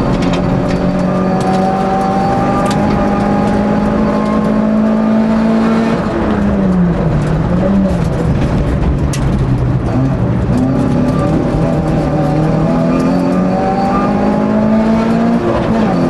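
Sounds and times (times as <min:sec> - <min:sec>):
racing car engine at high revs: 0:00.0 - 0:16.0.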